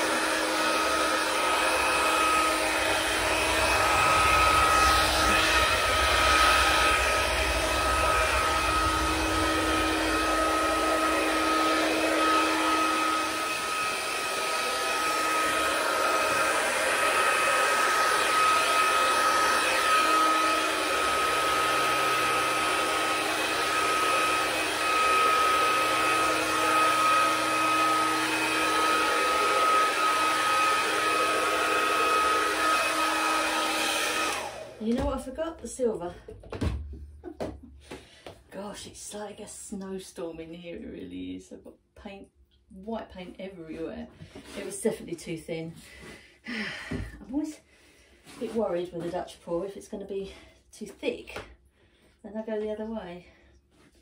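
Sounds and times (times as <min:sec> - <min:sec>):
hair dryer blowing: 0:00.0 - 0:40.3, 0:43.5 - 0:50.3.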